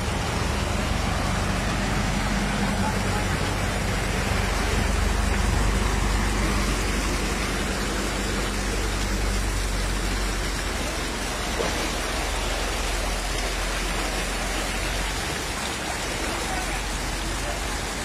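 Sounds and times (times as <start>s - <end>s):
drops splashing into water: 0.0s - 18.0s
heavy rain on a flooded street: 0.0s - 18.0s.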